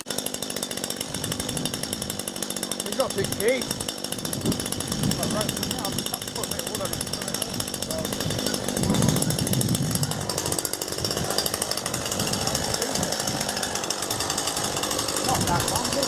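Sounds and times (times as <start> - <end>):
chainsaw running: 0.0 - 16.0.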